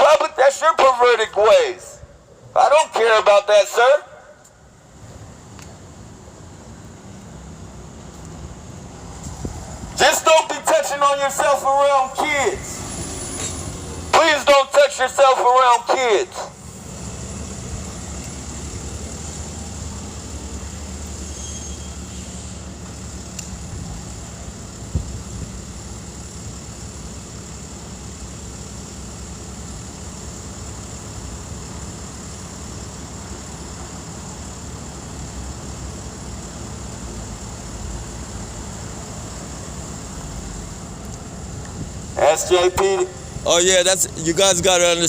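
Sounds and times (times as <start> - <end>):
vehicle rumbling: 0.0 - 45.0.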